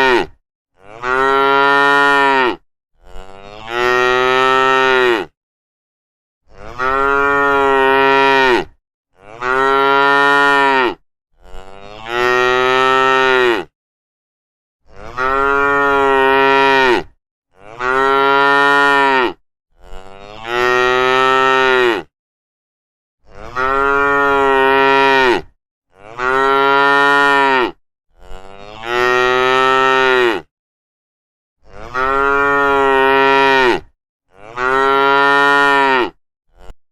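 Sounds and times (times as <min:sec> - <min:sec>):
cow mooing: 0:00.0 - 0:05.4, 0:06.5 - 0:13.7, 0:14.9 - 0:22.1, 0:23.2 - 0:30.5, 0:31.6 - 0:36.8.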